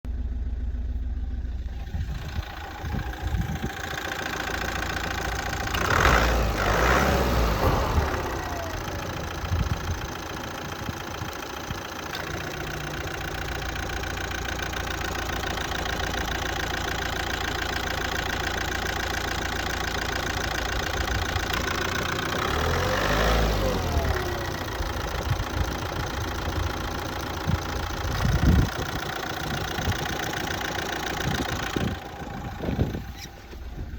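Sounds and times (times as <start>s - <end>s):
diesel engine idling roughly: 0.1s - 33.9s.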